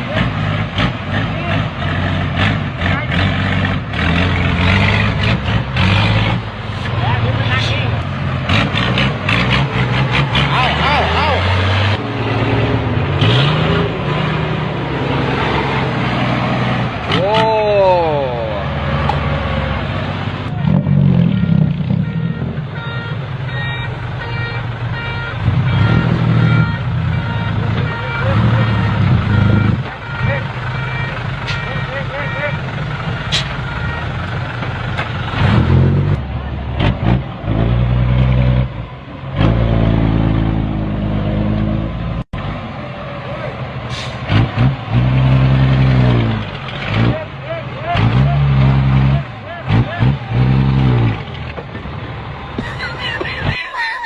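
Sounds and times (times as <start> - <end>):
dump truck engine running: 0.0 - 54.0.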